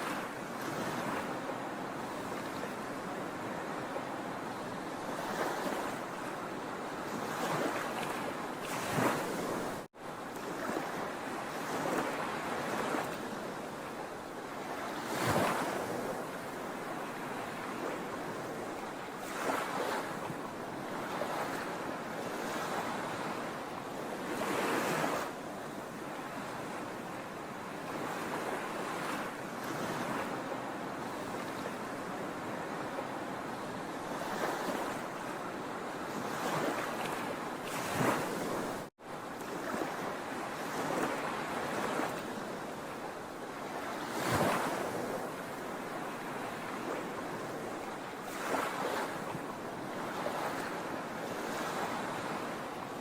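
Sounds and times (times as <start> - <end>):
sea waves washing ashore: 0.0 - 53.0.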